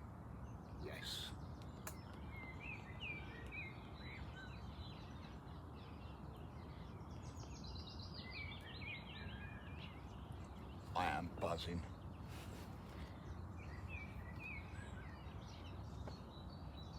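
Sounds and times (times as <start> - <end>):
songbirds singing: 0.0 - 16.9.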